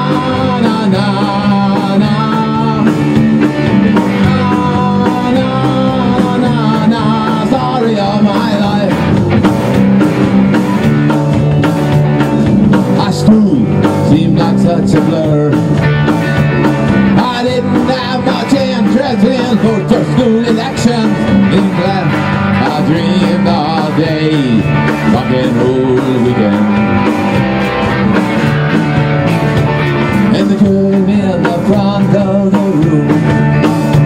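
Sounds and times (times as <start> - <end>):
drum kit with cymbals: 0.0 - 34.0
electric guitar: 0.0 - 34.0
rock band playing live: 0.0 - 34.0.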